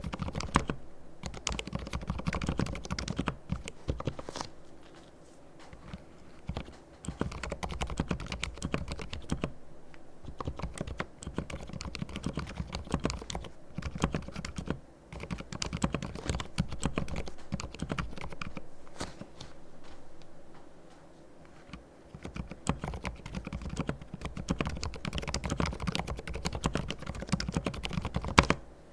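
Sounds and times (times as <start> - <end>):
muted mechanical keyboard typing: 0.0 - 4.2, 5.7 - 9.5, 10.2 - 18.6, 21.6 - 28.6.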